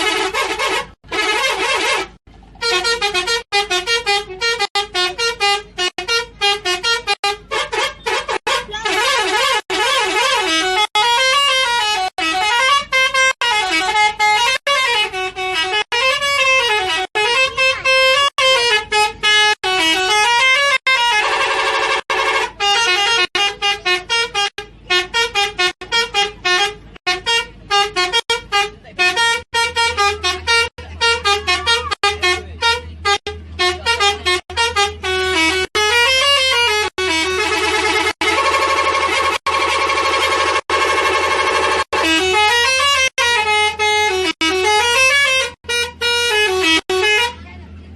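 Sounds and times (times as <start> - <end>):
multi-tone bus horn melody: 0.0 - 47.9.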